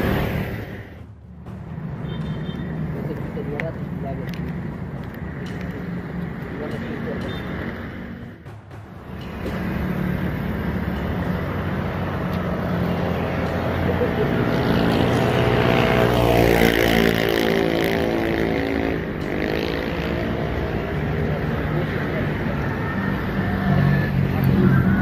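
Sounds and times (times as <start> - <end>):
vehicle passing: 0.0 - 25.0.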